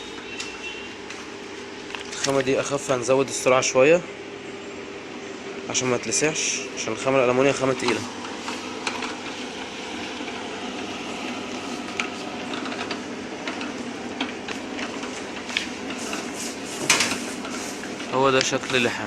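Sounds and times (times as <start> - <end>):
band sealer machine running: 0.0 - 19.0.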